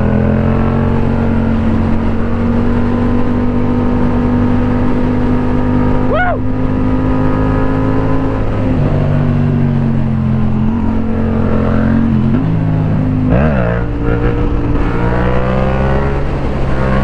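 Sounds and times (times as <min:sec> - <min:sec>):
rushing wind noise: 0:00.0 - 0:17.0.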